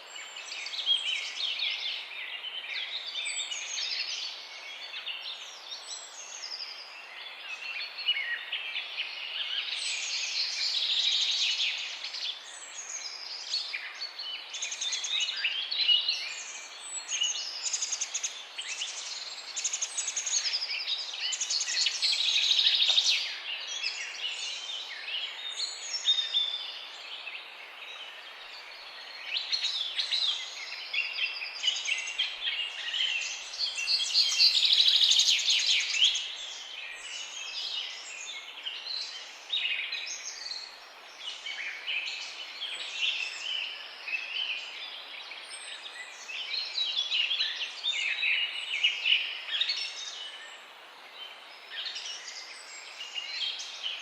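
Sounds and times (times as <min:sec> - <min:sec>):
songbirds chorus: 0:00.0 - 0:54.0.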